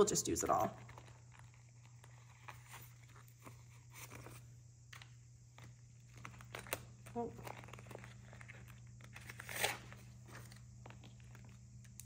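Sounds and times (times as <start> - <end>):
plastic pouches rustling and clicking: 0.0 - 12.0.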